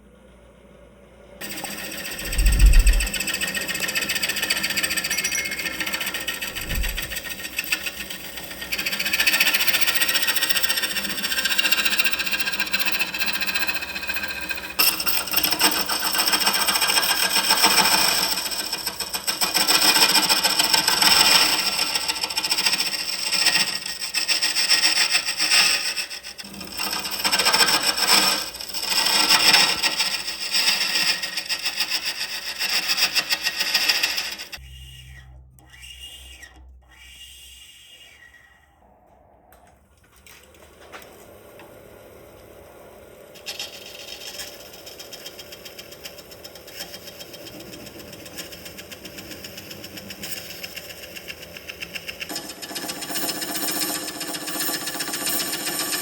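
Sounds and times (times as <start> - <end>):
tool scraping wood on a lathe: 1.4 - 39.0, 42.4 - 56.0.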